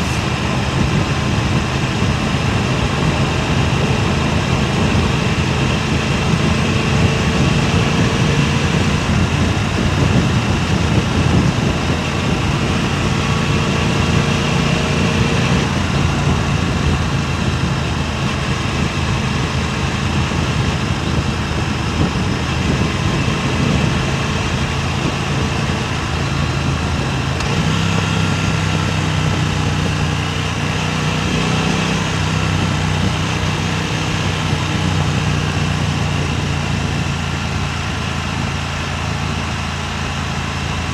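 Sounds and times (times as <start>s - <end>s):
vehicle engine running: 0.0s - 40.9s
wind rushing on microphone: 0.0s - 40.9s.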